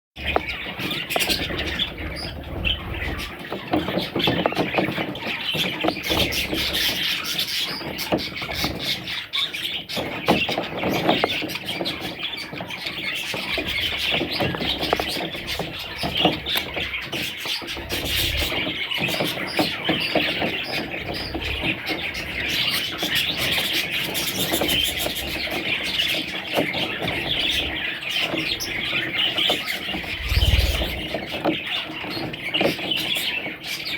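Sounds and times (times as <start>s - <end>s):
bird chicks chirping: 0.2s - 33.9s.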